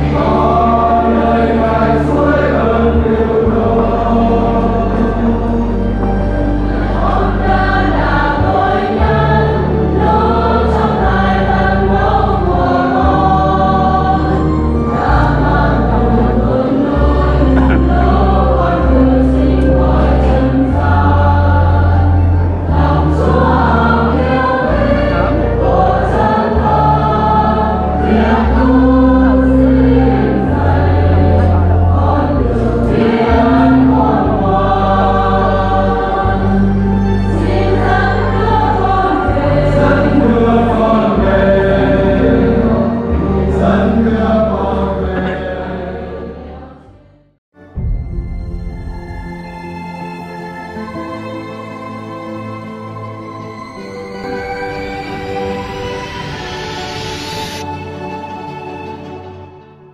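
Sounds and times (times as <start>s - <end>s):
choir singing a hymn: 0.0s - 47.4s, 48.9s - 59.6s
sustained low bass notes: 0.0s - 50.1s.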